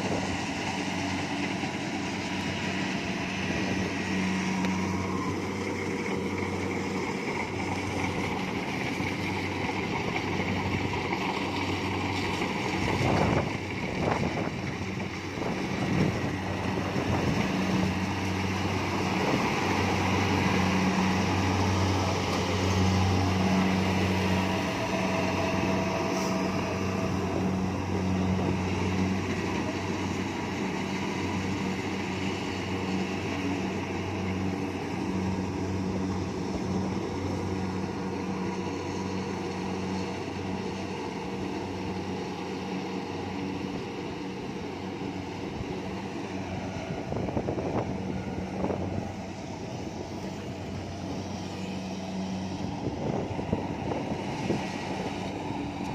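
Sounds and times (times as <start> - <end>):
combine harvester engine hum: 0.0 - 55.9
threshing machinery noise: 0.0 - 55.9.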